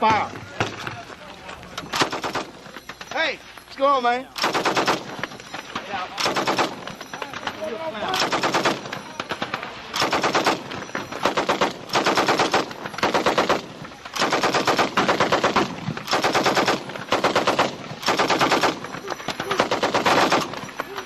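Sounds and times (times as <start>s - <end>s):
machine-gun bursts: 1.9s - 2.7s, 4.4s - 21.0s.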